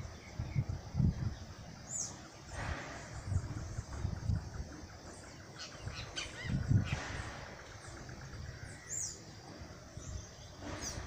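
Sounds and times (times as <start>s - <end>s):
bird chirping: 0.0s - 11.0s
low microphone rumble: 0.0s - 11.0s.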